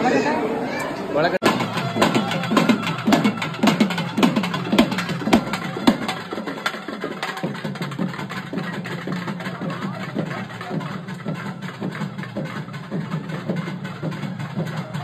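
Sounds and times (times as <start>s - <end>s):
drum strokes: 1.4s - 15.0s.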